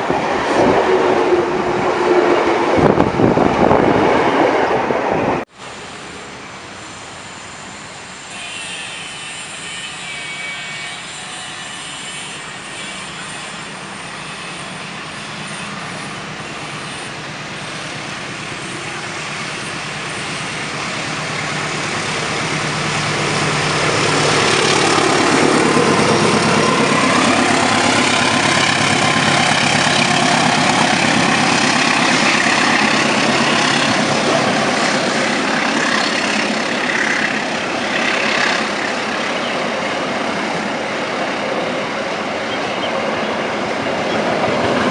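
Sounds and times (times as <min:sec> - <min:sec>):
train passing close by: 0:00.0 - 0:44.9.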